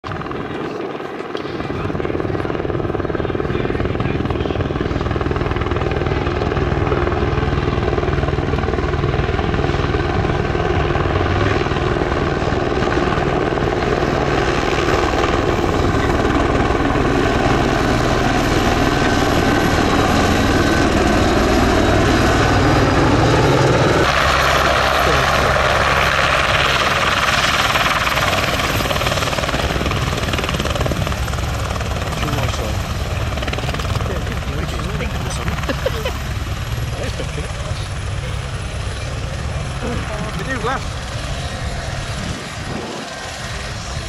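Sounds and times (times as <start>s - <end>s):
helicopter rotor beat: 0.0s - 44.0s
turbine whine: 0.0s - 44.0s.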